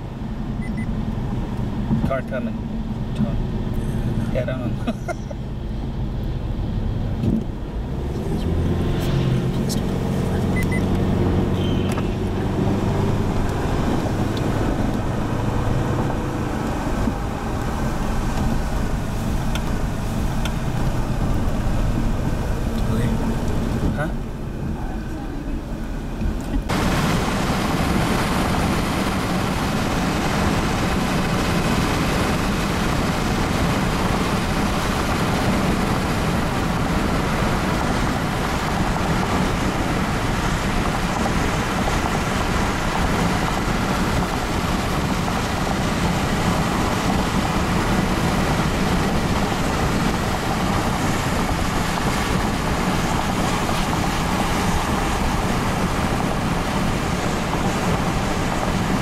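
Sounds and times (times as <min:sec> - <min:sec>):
storm wind on microphone: 0:06.4 - 0:59.0.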